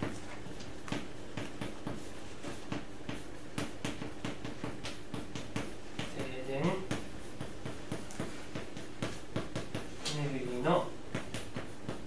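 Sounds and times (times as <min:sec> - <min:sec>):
chalk tapping and scratching: 0:00.0 - 0:12.0.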